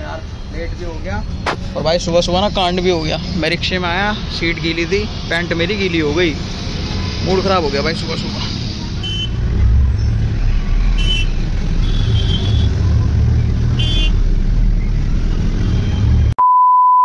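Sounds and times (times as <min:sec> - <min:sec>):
bus engine rumbling: 0:00.0 - 0:16.4.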